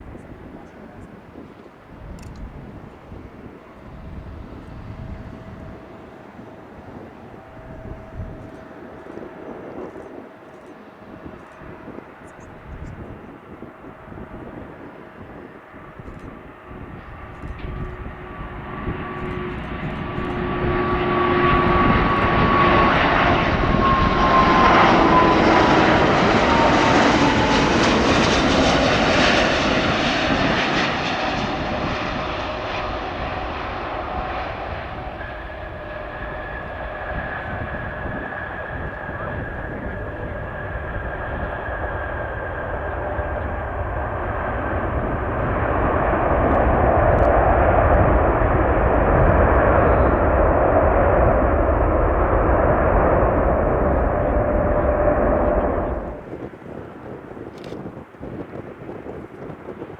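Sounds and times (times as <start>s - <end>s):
jet airliner passing: 0.0s - 59.9s
whining jet engine tone: 0.0s - 59.9s.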